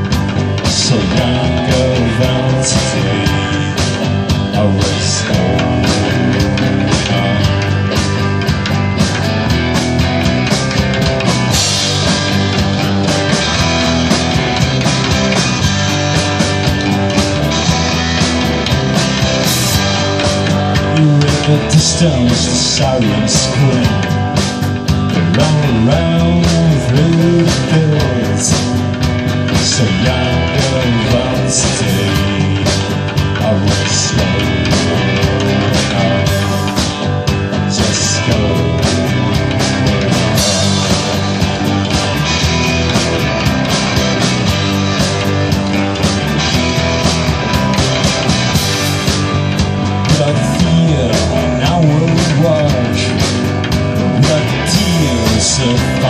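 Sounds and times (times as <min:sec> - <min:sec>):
drum kit: 0:00.0 - 0:56.0
electric bass: 0:00.0 - 0:56.0
electric guitars: 0:00.0 - 0:56.0.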